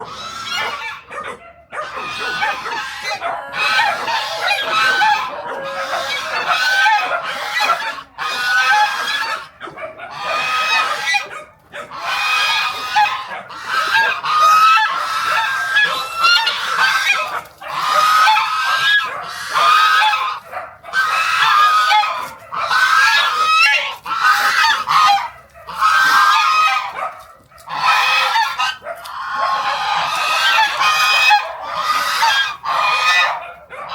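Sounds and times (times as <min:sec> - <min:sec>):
geese honking: 0:00.0 - 0:01.2, 0:01.8 - 0:33.9.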